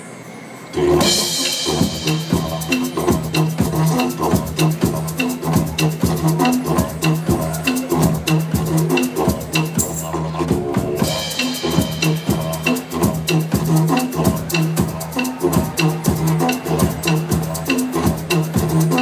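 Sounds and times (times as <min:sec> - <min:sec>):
didgeridoo drone: 0:00.8 - 0:19.0
drum beat with cymbal ticks: 0:00.9 - 0:19.0.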